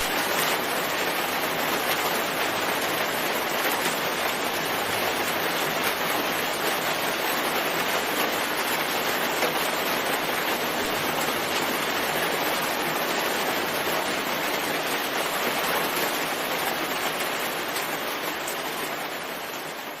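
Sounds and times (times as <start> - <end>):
dense rainfall: 0.0 - 20.0.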